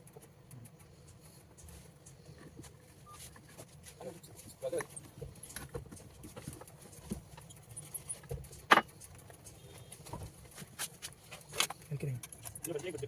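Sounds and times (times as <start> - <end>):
small hard parts clicking: 0.0 - 13.0.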